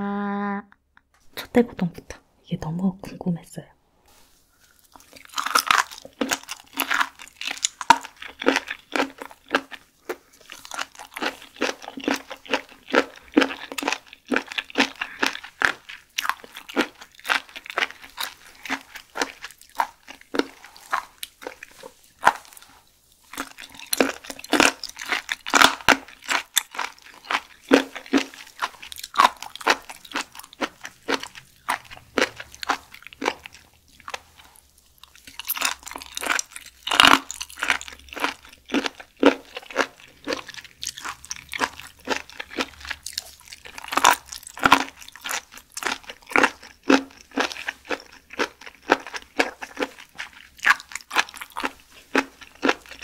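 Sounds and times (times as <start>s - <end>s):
crunchy chewing: 4.6s - 53.0s.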